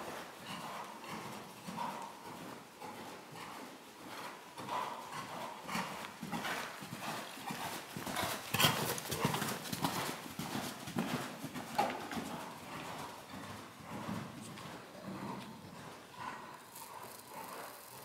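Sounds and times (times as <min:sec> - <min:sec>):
horse hoofbeats trotting on sand: 0:00.0 - 0:18.0.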